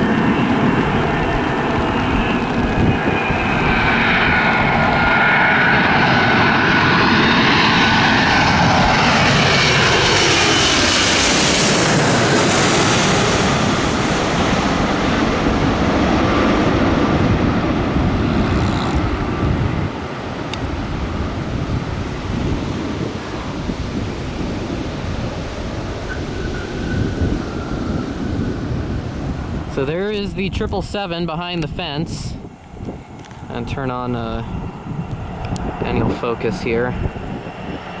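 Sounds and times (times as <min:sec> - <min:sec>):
jet engine whine and roar: 0:00.0 - 0:38.0.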